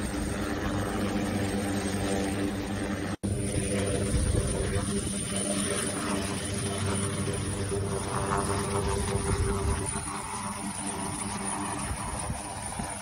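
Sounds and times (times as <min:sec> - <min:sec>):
helicopter turbine and rotor drone: 0:00.0 - 0:13.0.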